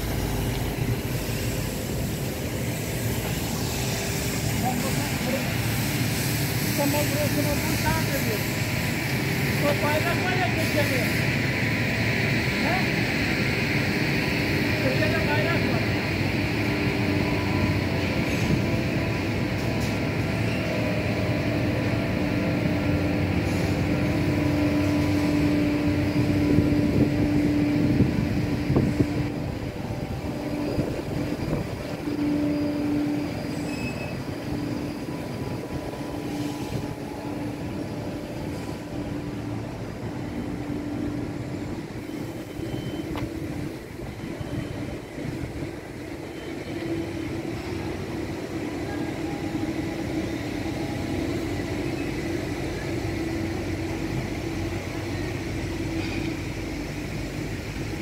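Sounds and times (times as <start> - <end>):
low mechanical drone: 0.0 - 58.0.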